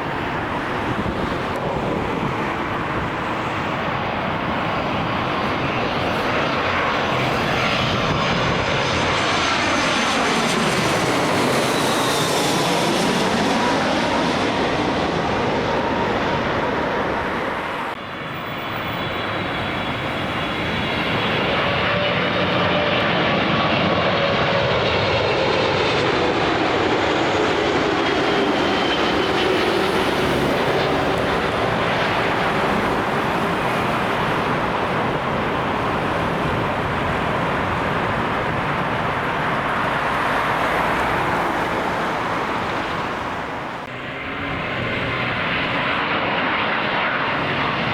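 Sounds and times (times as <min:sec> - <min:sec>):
jet airliner engines passing: 0:00.0 - 0:47.9.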